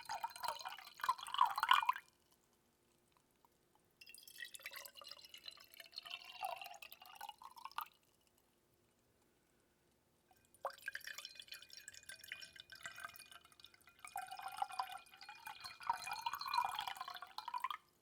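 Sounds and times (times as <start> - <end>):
water dripping and trickling: 0.0 - 2.4, 4.0 - 8.4, 10.3 - 18.0.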